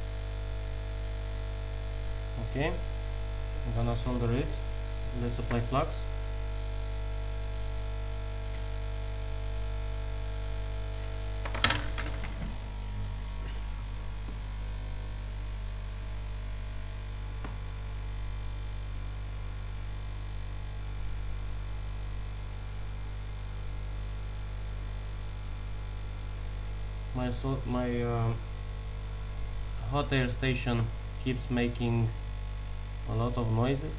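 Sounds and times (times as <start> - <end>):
electrical hum: 0.0 - 33.9.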